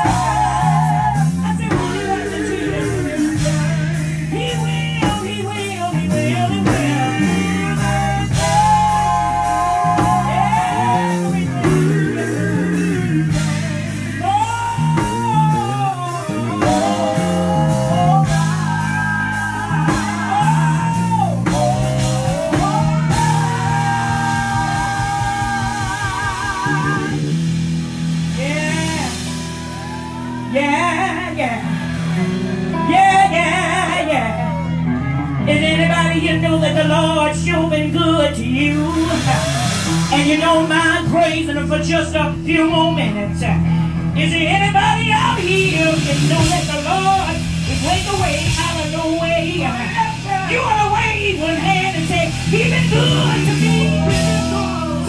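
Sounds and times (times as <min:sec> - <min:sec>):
man singing with vibrato: 0:00.0 - 0:27.4, 0:30.5 - 0:55.0
gospel band playing: 0:00.0 - 0:55.0.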